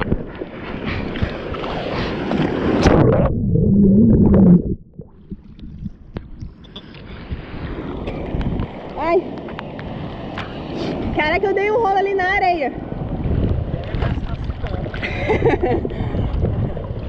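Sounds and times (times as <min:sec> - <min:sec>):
underwater rumble: 0:00.0 - 0:10.1, 0:12.8 - 0:17.0.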